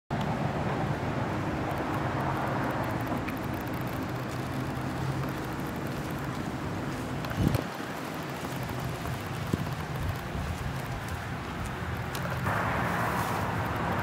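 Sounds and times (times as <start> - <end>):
traffic noise: 0.1 - 14.0
low engine-like hum: 0.2 - 14.0.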